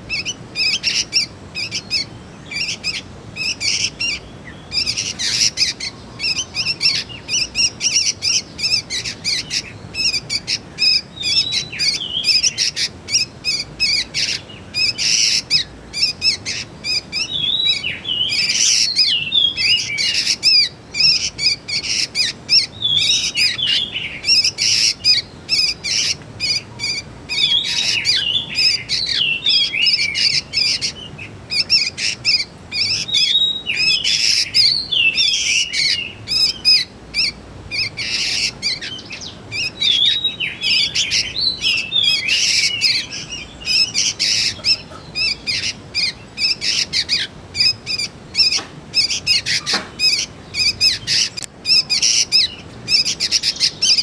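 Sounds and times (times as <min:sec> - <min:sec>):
young birds chirping: 0:00.0 - 0:54.0.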